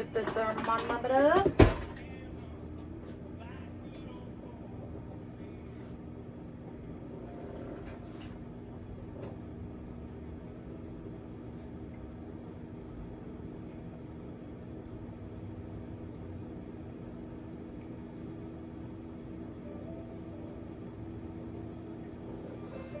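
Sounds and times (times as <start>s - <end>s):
air fryer fan hum: 0.0s - 23.0s.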